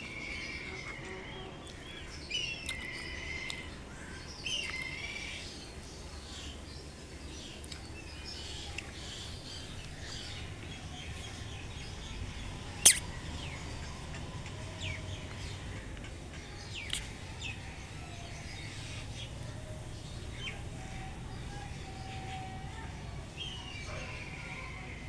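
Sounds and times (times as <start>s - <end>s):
small birds chirping: 0.0s - 24.7s.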